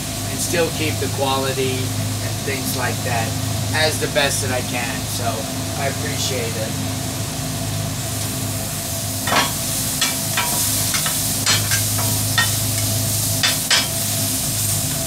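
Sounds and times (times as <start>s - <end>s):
chicken sizzling on a grill: 0.0s - 15.0s
steady low hum: 0.0s - 15.0s.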